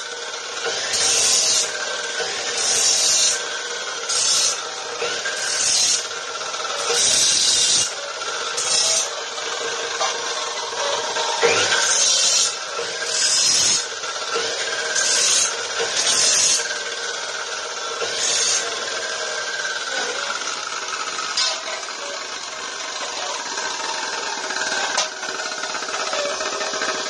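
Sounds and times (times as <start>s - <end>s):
cut-off saw motor running: 0.0s - 27.0s
harsh grinding on metal: 0.0s - 27.0s.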